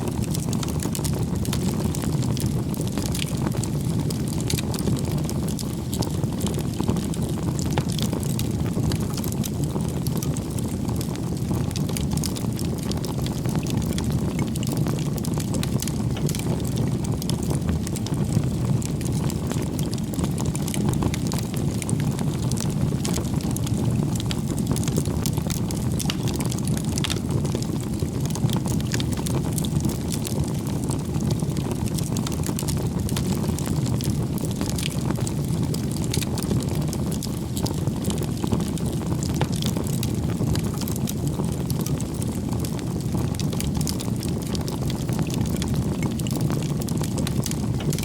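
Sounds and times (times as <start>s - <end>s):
campfire burning and crackling: 0.0s - 48.0s.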